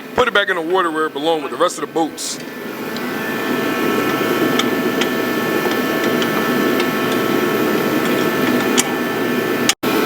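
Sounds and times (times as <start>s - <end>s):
motor hum with whine: 0.0s - 10.0s.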